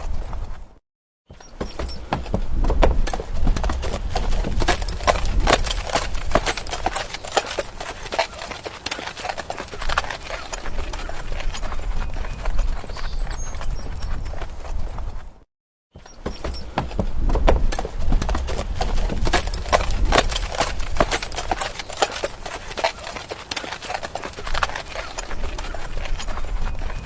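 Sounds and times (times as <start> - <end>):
horse hooves clip-clopping: 0.0 - 15.4, 16.0 - 27.0.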